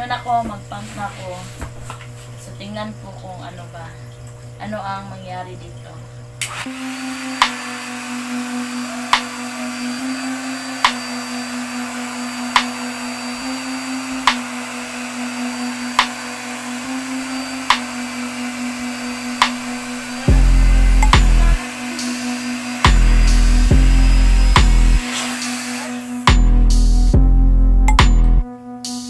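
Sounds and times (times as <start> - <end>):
electric air pump humming: 0.6 - 27.2.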